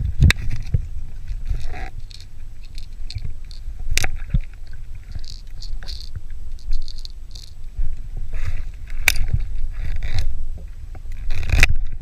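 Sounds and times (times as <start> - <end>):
low underwater rumble: 0.0 - 12.0.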